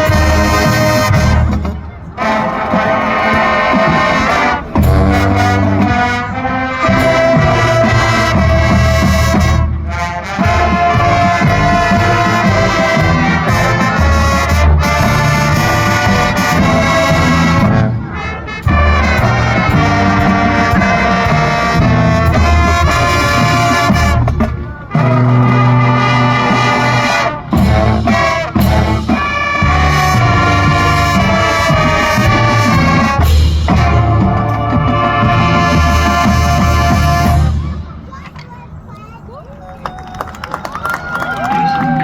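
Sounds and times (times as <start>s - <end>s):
marching band playing: 0.0s - 42.0s.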